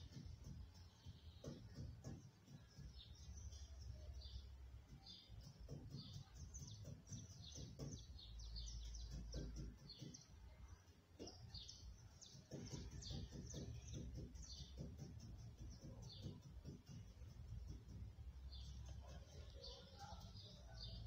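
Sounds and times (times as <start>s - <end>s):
small birds chirping faintly: 0.0s - 21.0s.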